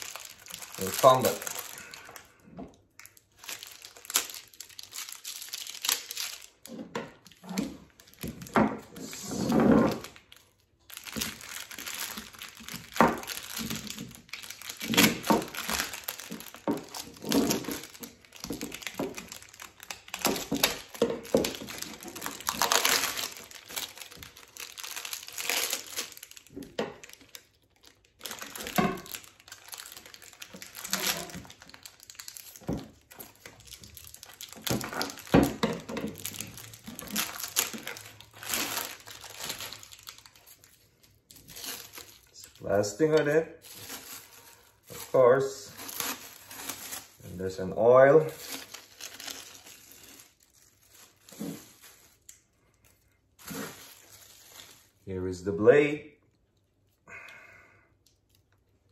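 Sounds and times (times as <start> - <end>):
plastic wrapping crinkling and tearing: 0.0 - 55.9, 57.9 - 58.9.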